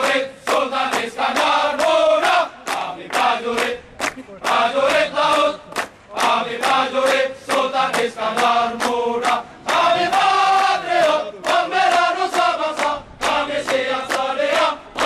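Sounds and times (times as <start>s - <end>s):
hand claps: 0.0s - 10.3s, 11.0s - 15.0s
men singing a march in unison: 0.0s - 15.0s.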